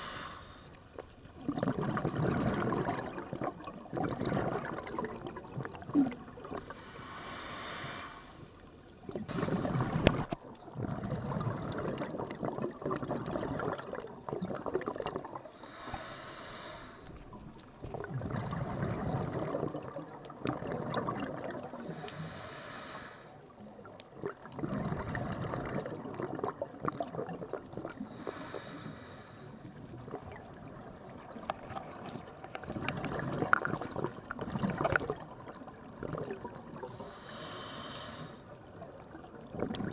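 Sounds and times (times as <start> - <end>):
scuba regulator bubbles gurgling: 0.9 - 7.5, 8.9 - 39.9.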